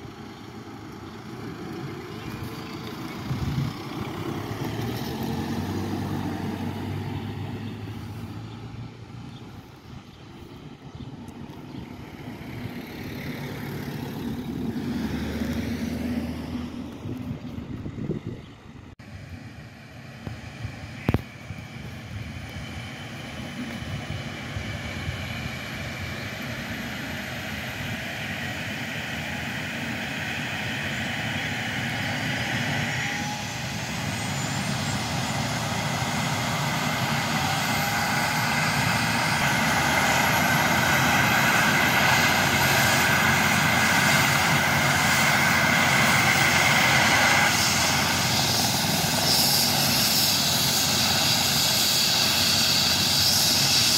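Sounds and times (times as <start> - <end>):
helicopter turbine and rotor: 0.0 - 53.9
high rising whine: 0.0 - 53.9.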